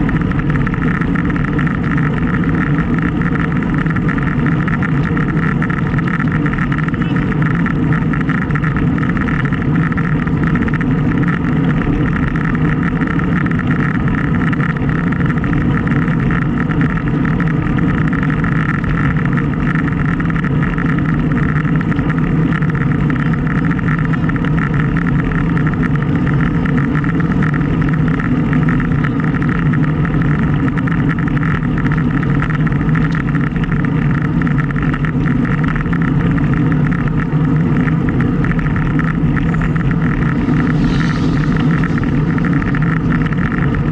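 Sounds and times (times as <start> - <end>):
bicycle road noise: 0.0 - 43.9
wind on microphone: 0.0 - 43.9.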